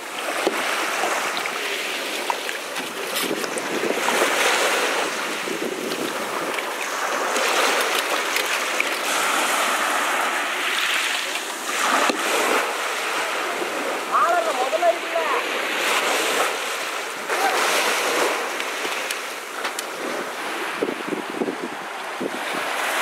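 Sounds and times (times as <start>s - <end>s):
waves washing up a beach: 0.0s - 23.0s
wind buffeting microphone: 0.4s - 10.4s, 11.4s - 23.0s.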